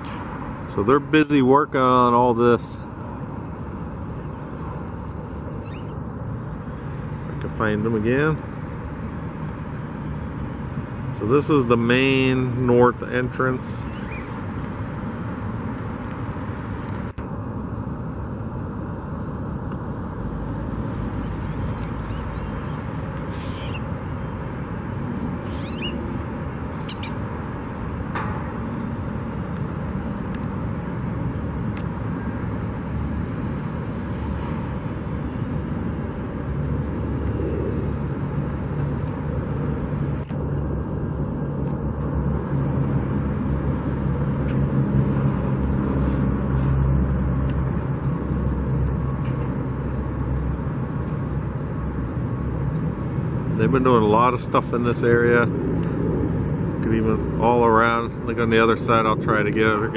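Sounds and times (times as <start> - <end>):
rumble of traffic and machinery: 0.0 - 59.9
vehicle engine humming: 0.0 - 59.9.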